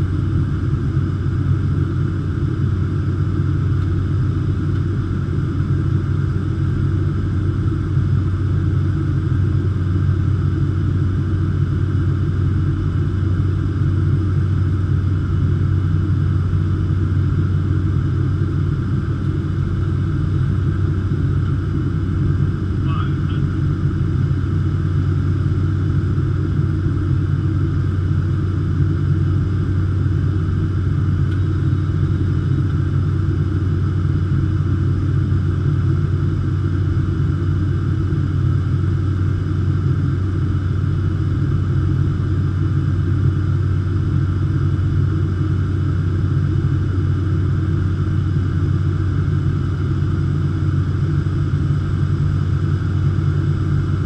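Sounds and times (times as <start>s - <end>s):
turboprop engine drone: 0.0s - 54.0s.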